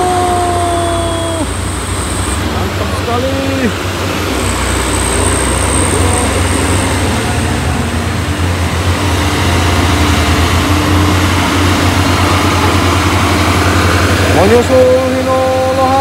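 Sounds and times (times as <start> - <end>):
road noise: 0.0 - 16.0
truck diesel engine droning: 0.0 - 16.0.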